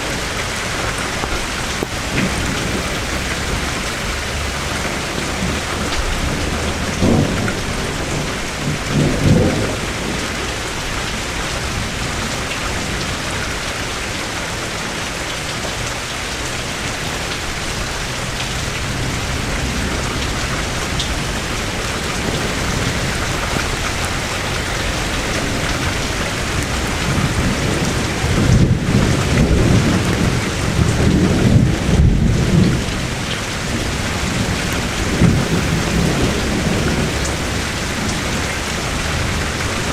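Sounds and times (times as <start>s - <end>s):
steady rain: 0.0s - 39.9s
thunder rumbling: 1.0s - 10.4s, 16.2s - 39.9s.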